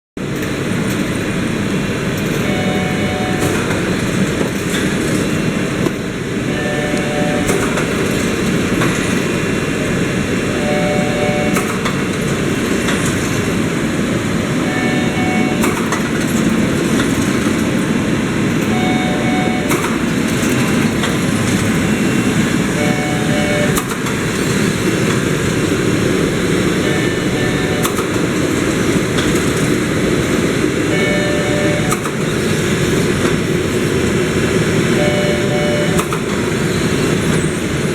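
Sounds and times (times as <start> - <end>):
shrink wrapping machine running: 0.2 - 37.9.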